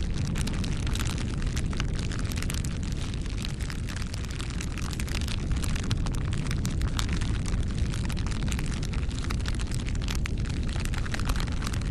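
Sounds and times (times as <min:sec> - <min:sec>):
low rumble of flames: 0:00.0 - 0:11.9
wood crackling and popping: 0:00.0 - 0:11.9.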